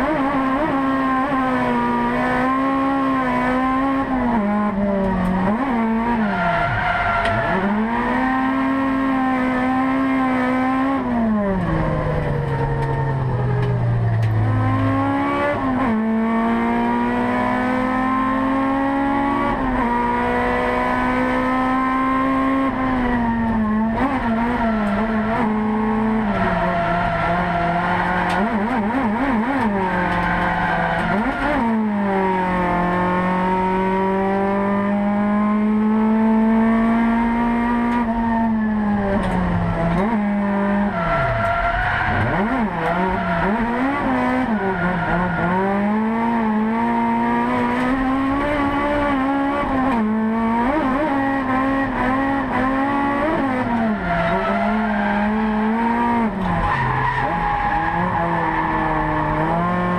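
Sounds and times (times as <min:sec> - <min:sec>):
car engine revving hard: 0:00.0 - 0:12.0, 0:14.1 - 0:59.9.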